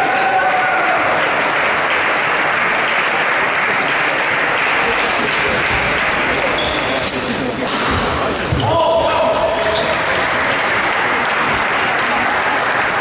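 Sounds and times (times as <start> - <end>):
spectators clapping: 0.0 - 7.0, 9.2 - 13.0.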